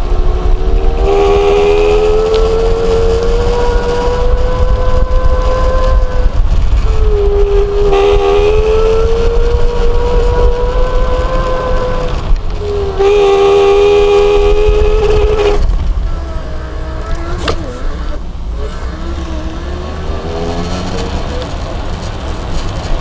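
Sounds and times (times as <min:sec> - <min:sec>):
electric scooter whine and rumble: 0:00.0 - 0:23.0.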